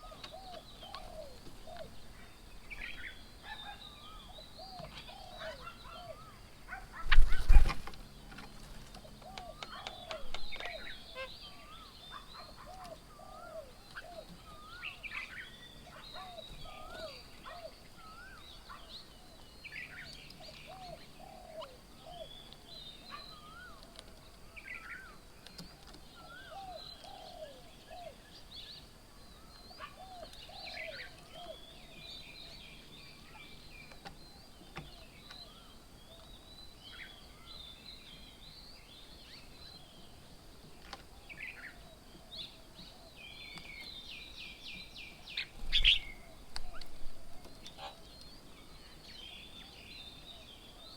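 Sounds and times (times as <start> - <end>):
birds calling and chirping: 0.0 - 50.9.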